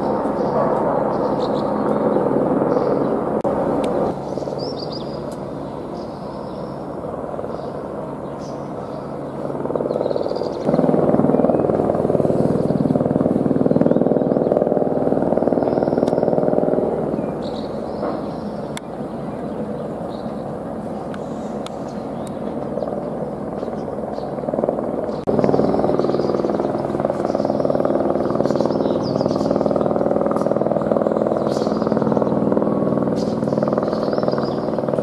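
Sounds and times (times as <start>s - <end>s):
helicopter rotor chopping: 0.0s - 35.0s.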